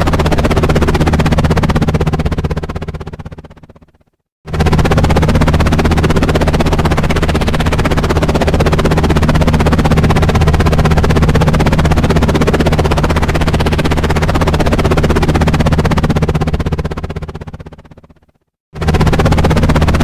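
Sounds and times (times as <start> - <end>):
helicopter engine drone: 0.0 - 20.0
helicopter rotor blades chopping: 0.0 - 20.0.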